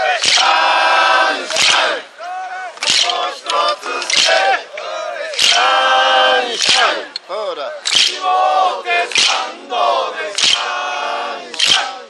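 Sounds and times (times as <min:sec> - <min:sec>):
group hand clap: 0:00.0 - 0:02.0, 0:02.7 - 0:07.1, 0:07.8 - 0:12.0
crowd chanting: 0:00.0 - 0:12.0.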